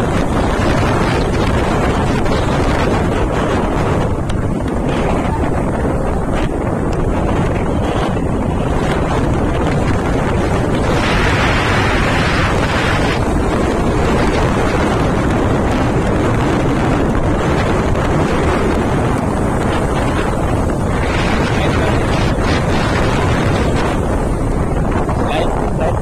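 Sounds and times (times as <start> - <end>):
road noise: 0.0 - 26.0
wind rushing over microphone: 0.0 - 26.0.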